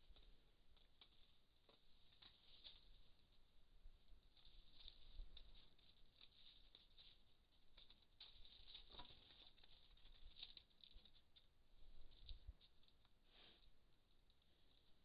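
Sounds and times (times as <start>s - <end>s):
faint ticks and crackles: 0.0s - 15.0s.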